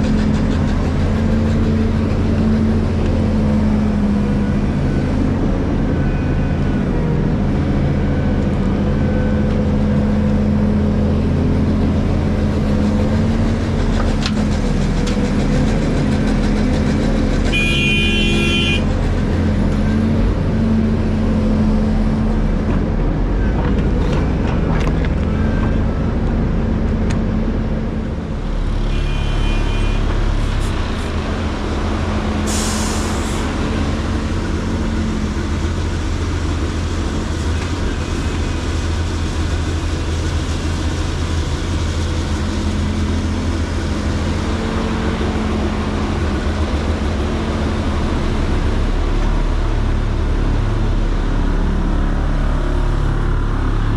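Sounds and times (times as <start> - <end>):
excavator diesel engine humming: 0.0 - 53.9.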